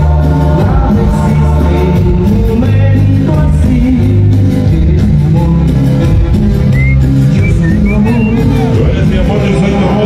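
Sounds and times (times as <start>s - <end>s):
dance music with singing: 0.0s - 10.0s.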